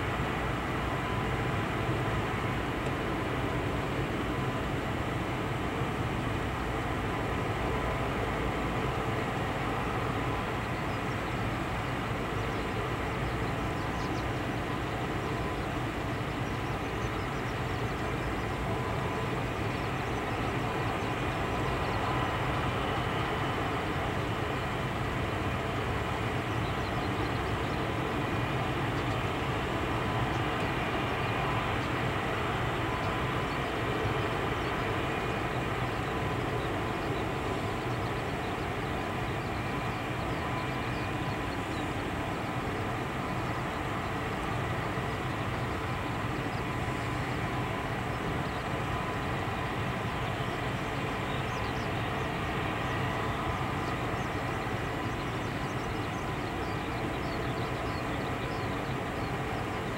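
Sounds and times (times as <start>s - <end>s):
high engine whine: 0.0s - 59.9s
turboprop engines droning: 0.0s - 59.9s.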